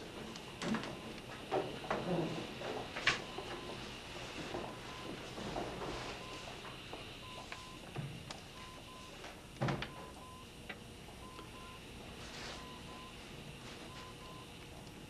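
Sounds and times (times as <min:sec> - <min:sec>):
patient monitor beeps: 0:00.0 - 0:14.6.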